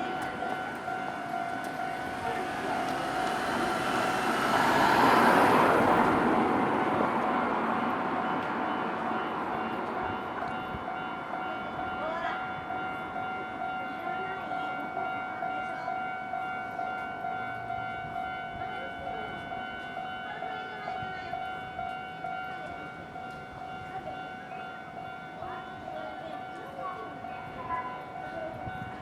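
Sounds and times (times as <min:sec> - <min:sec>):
level-crossing warning bell ringing: 0:00.0 - 0:29.0
passing train rumble: 0:00.0 - 0:29.0.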